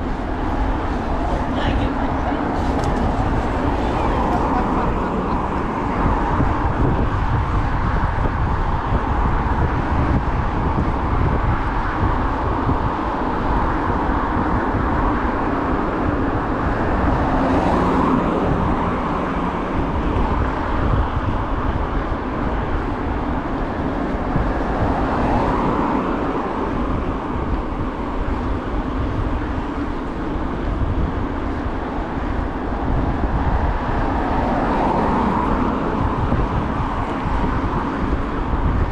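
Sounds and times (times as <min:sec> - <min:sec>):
car traffic passing: 0:00.0 - 0:38.9
wind and tyre rumble: 0:00.0 - 0:38.9.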